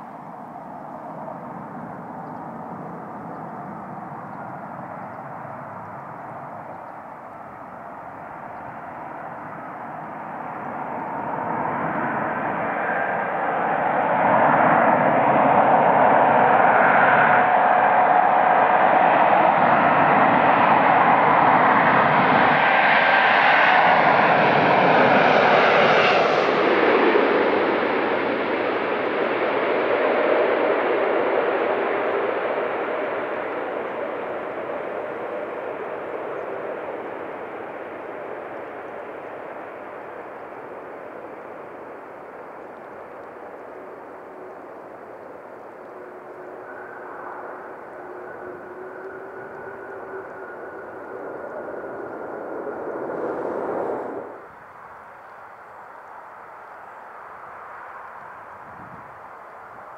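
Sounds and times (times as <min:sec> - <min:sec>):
jet engines roaring: 0:00.0 - 0:57.2.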